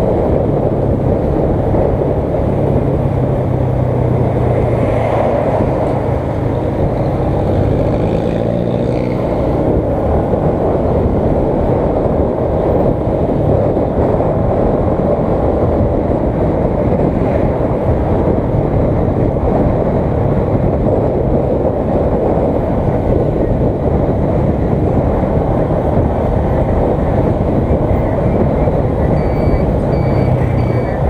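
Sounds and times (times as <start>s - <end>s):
motorcycle engine drone: 0.0s - 31.0s
wind rushing on microphone: 0.0s - 31.0s.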